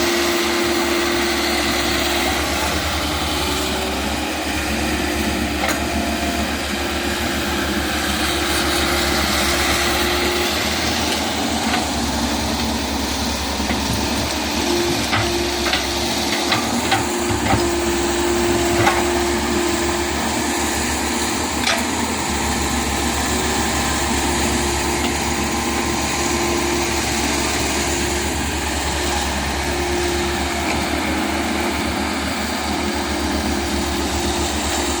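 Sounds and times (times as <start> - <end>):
excavator engine running: 0.0 - 35.0.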